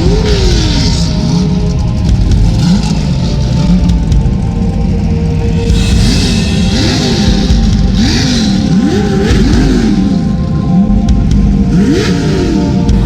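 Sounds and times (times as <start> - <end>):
background music: 0.0 - 13.0
race vehicle engine revving: 0.0 - 13.0.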